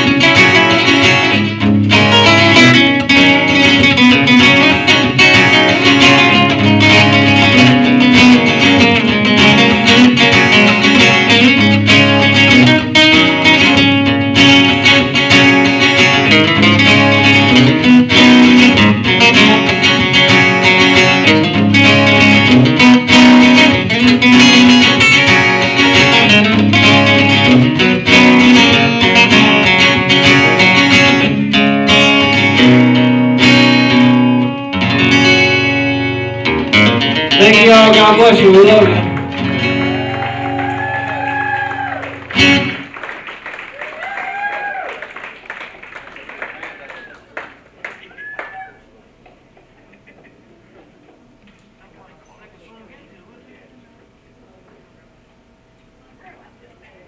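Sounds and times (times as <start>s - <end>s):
acoustic guitar through speakers: 0.0s - 57.0s.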